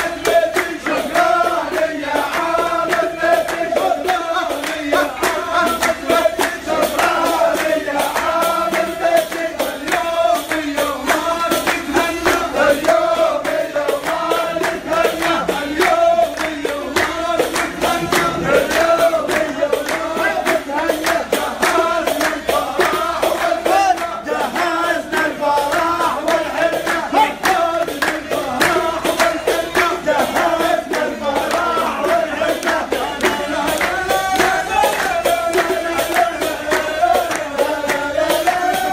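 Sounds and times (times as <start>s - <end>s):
men singing in chorus: 0.0s - 38.9s
rhythmic hand clapping: 0.0s - 38.9s.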